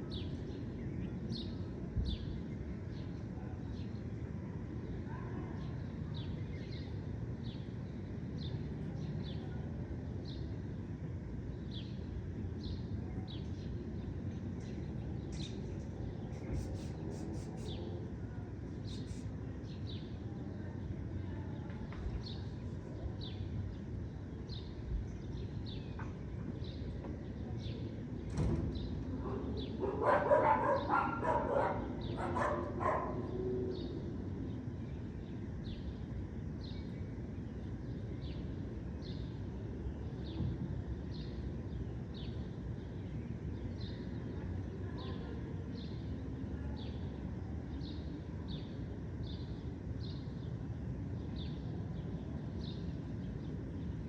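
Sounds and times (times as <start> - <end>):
distant city hum: 0.0 - 54.0.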